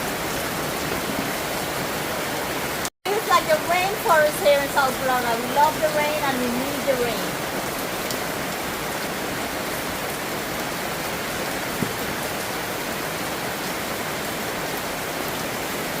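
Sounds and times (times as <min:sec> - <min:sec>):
heavy rain pattering: 0:00.0 - 0:16.0.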